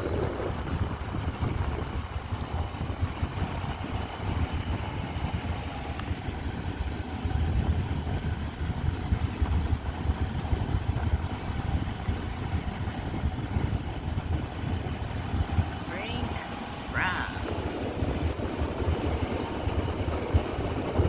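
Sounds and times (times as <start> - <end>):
car engine rumble: 0.0 - 21.0
tyres on road: 0.0 - 21.0.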